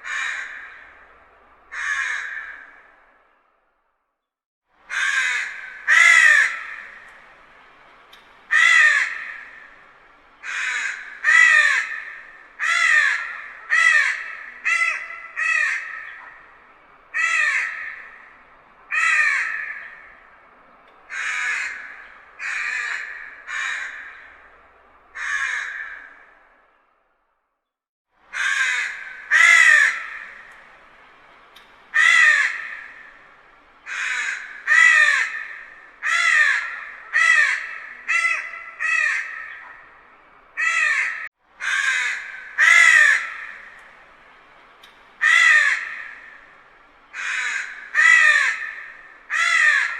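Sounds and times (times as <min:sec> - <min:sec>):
crow cawing: 0:00.0 - 0:03.2, 0:04.9 - 0:07.6, 0:08.5 - 0:26.6, 0:28.3 - 0:30.8, 0:31.9 - 0:44.1, 0:45.2 - 0:49.9.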